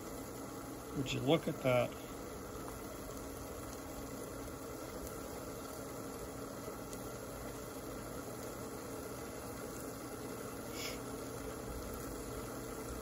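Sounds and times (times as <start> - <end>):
induction cooktop humming: 0.0 - 13.0.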